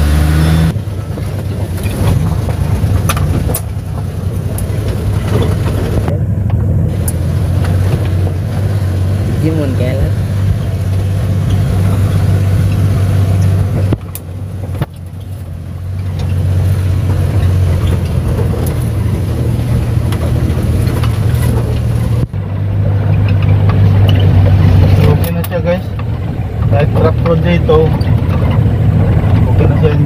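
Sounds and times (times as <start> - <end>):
engine running: 0.0 - 30.0
road noise: 0.0 - 30.0.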